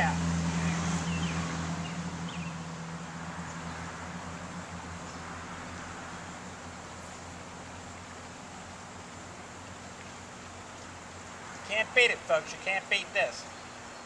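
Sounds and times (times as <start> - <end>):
low hum: 0.0 - 11.3.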